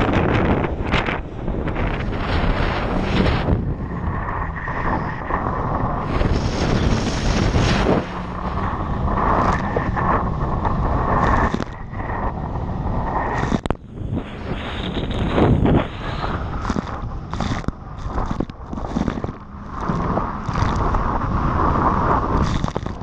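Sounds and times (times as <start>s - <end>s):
jet ski engine whine: 0.0s - 23.0s
wind buffeting microphone: 0.0s - 23.0s.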